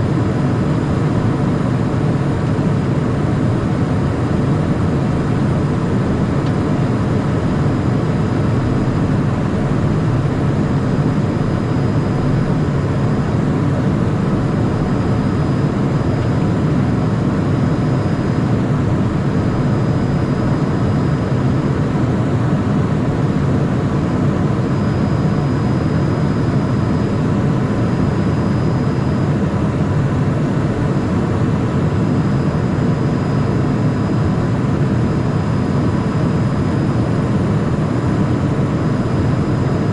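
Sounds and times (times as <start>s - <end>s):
faint steady whines: 0.0s - 39.9s
jet cabin engine and airflow noise: 0.0s - 39.9s.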